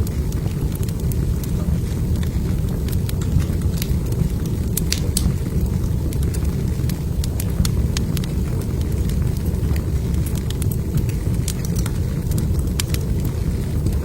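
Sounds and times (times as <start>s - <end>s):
log fire crackling and popping: 0.0s - 14.0s.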